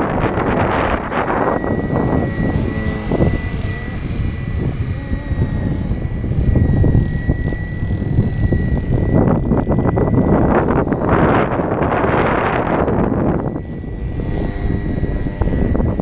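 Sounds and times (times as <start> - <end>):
model helicopter whine: 0.0 - 16.0
wind buffeting microphone: 0.0 - 16.0.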